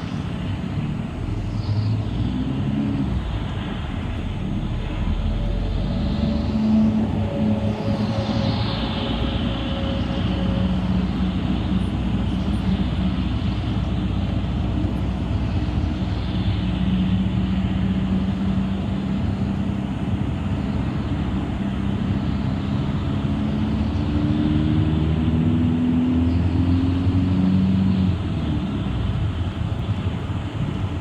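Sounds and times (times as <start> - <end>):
bus engine running: 0.0 - 31.0
road noise: 0.0 - 31.0.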